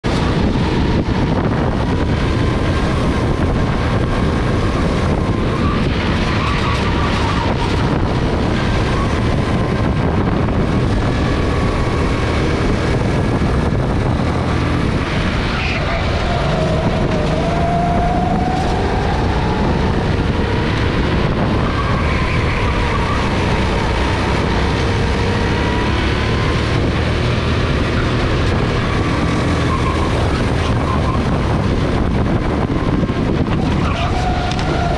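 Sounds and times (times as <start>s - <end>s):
go-kart engine running hard: 0.0s - 34.9s.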